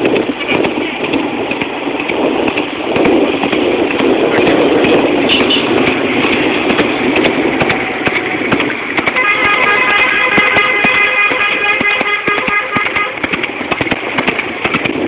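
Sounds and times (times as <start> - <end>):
hooves clopping on asphalt: 0.0 - 15.0
motorcycle running: 0.0 - 15.0.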